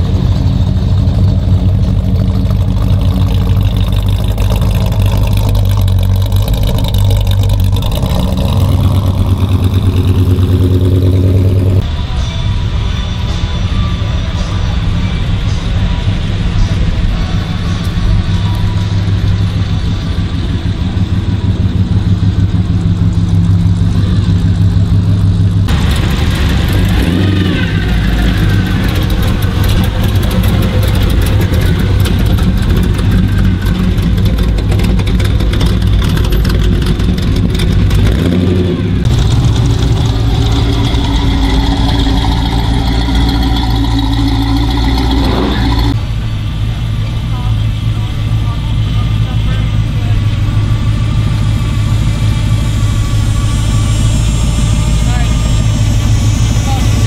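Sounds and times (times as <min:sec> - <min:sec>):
car engine revving: 0:00.0 - 0:57.0
car engines idling: 0:00.0 - 0:57.0.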